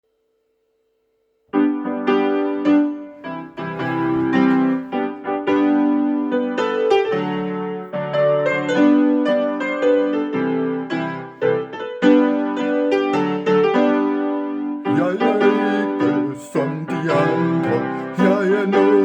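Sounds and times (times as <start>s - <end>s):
electronic piano melody: 1.5s - 19.0s.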